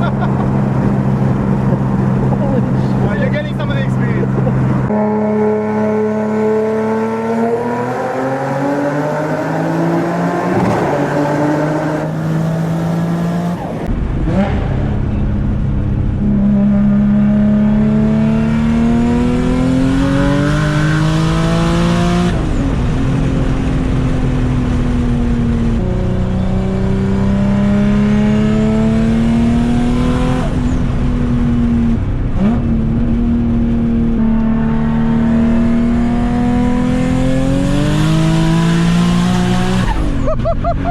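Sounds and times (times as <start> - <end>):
car engine revving at full throttle: 0.0 - 40.9.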